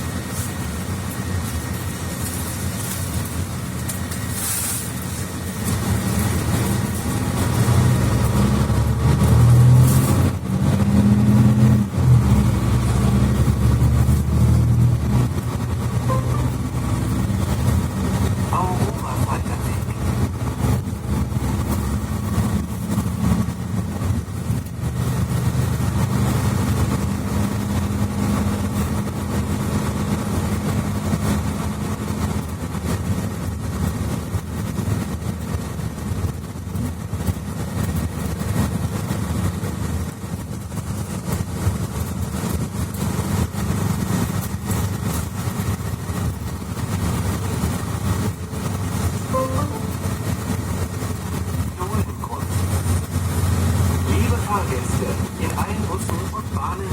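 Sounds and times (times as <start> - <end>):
bus diesel engine humming: 0.0 - 56.9.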